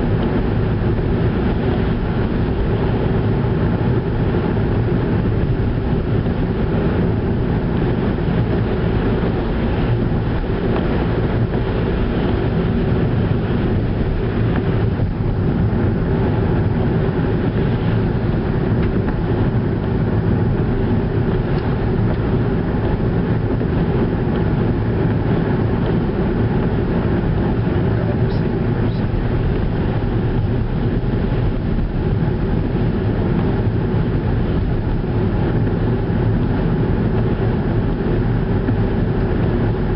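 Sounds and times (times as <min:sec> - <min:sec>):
car engine driving: 0:00.0 - 0:39.9
tyre-on-road noise: 0:00.0 - 0:39.9.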